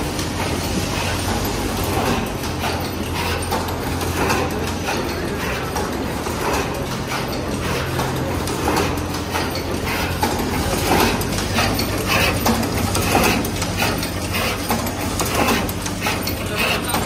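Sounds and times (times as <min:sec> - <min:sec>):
machine clacks and clicks: 0:00.0 - 0:17.0
steady machine hum: 0:00.0 - 0:17.0.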